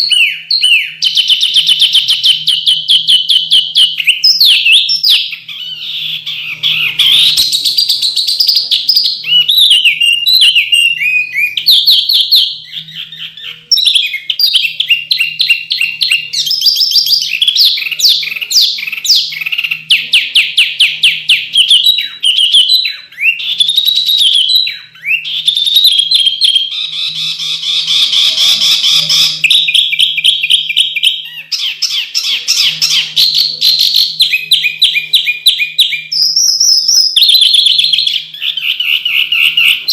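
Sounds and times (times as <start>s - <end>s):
bird singing rapid trills: 0.0s - 39.9s.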